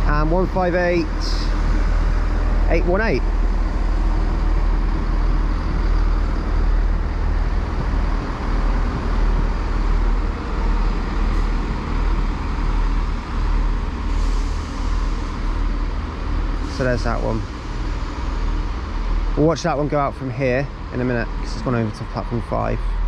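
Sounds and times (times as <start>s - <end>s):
diesel train engine rumble: 0.0s - 23.0s.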